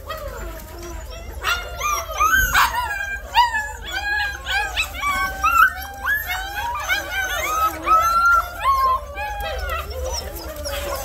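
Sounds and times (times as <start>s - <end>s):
puppies whining and yipping: 0.0s - 11.0s.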